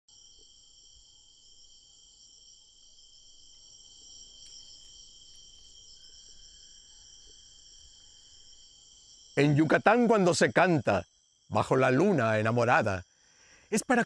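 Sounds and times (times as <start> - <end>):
crickets chirring: 0.1 - 14.0
low insect tone: 0.1 - 14.0.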